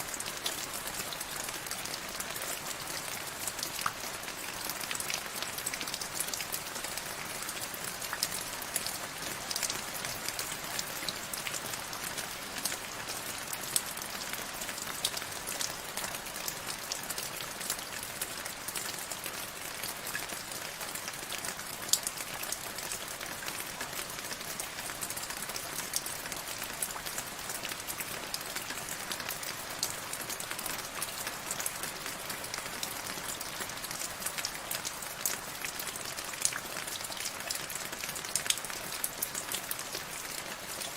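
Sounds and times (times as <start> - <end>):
raindrops hitting a surface: 0.0 - 40.9.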